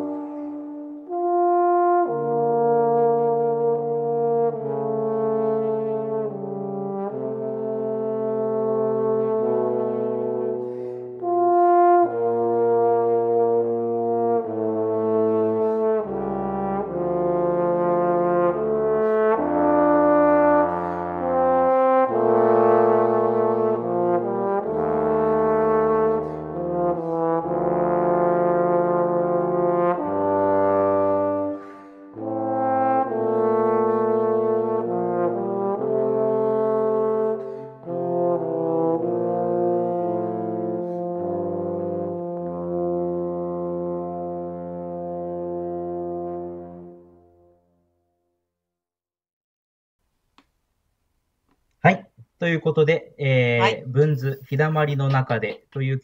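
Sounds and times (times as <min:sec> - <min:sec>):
bass trombones playing: 0:00.0 - 0:47.5.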